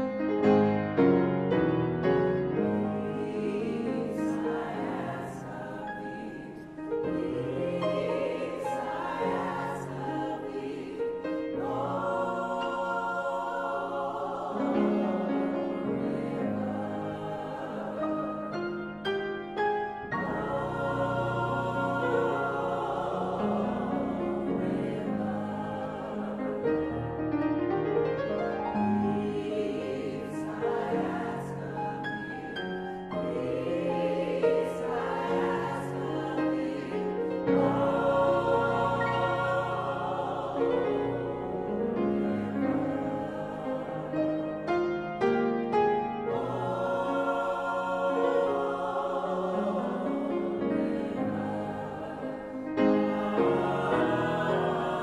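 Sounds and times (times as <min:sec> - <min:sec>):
mixed chorus singing in harmony: 0:00.0 - 0:27.6, 0:28.2 - 0:55.0
grand piano: 0:00.0 - 0:55.0.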